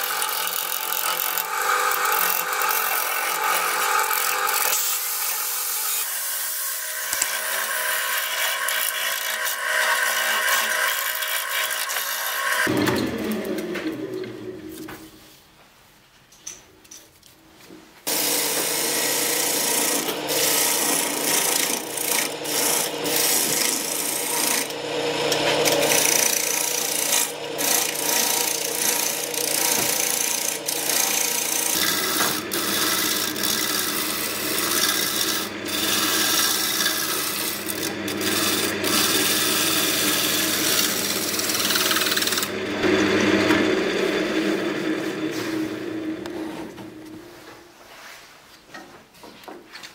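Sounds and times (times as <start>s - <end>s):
gouge scraping spinning wood: 0.0s - 12.8s, 18.1s - 47.1s
wood lathe humming: 0.0s - 14.8s, 18.1s - 47.2s.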